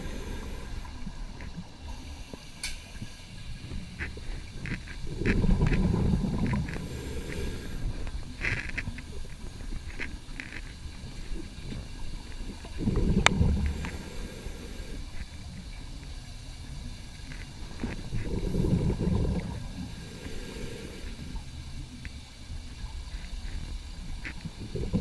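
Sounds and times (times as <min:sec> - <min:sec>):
low underwater hum: 0:00.0 - 0:25.0
underwater bubbling bursts: 0:00.0 - 0:25.0.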